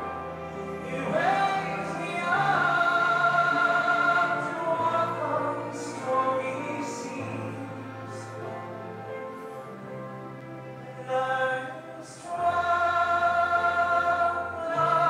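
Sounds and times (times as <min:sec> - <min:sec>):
operatic singing: 0:00.0 - 0:15.0
sustained low accompaniment: 0:00.0 - 0:15.0.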